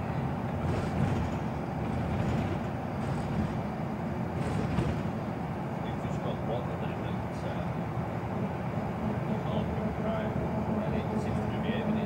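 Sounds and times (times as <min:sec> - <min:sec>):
bus engine rumble: 0:00.0 - 0:12.0
road noise in bus cabin: 0:00.0 - 0:12.0.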